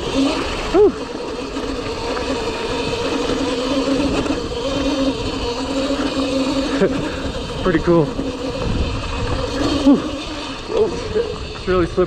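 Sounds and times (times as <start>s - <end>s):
electric dirt bike motor whining: 0.0s - 12.0s.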